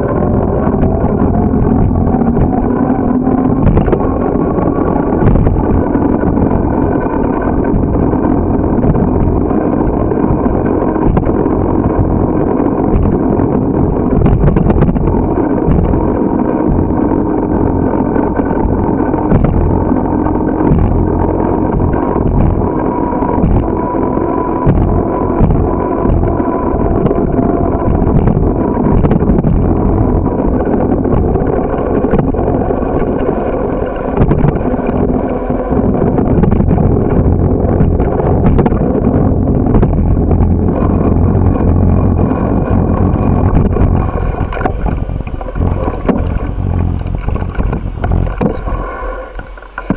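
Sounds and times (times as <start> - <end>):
bicycle rattling on rough pavement: 0.0 - 49.9
wind buffeting microphone: 0.0 - 49.9.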